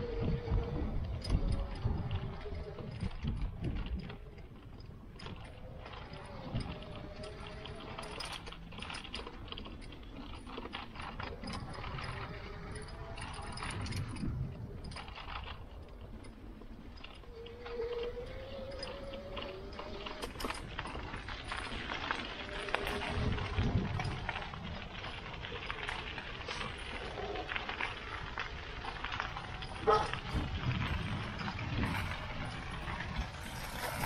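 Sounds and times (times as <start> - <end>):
small rustles and clicks: 0.0 - 34.0
wind rumbling on microphone: 0.0 - 34.0.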